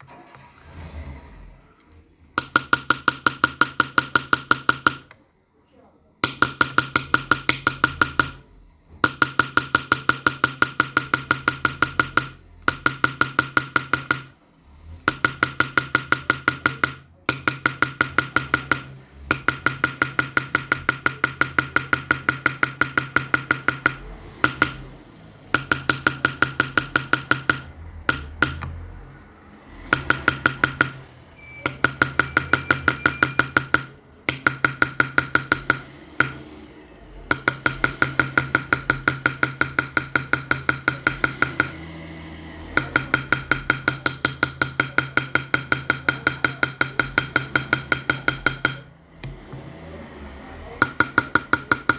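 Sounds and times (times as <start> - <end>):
small hammer tapping metal: 2.4 - 5.2, 6.2 - 14.4, 15.1 - 24.9, 25.5 - 28.8, 29.9 - 36.5, 37.3 - 41.9, 42.8 - 48.9, 50.7 - 51.9.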